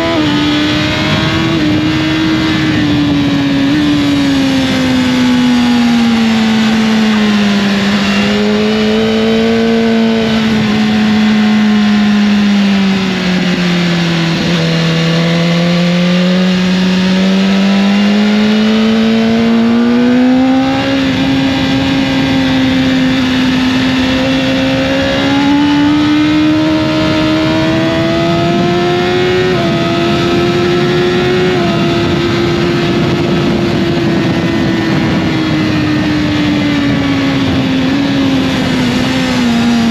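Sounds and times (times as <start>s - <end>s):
motorcycle engine running hard: 0.0s - 39.9s
wind noise: 0.0s - 39.9s.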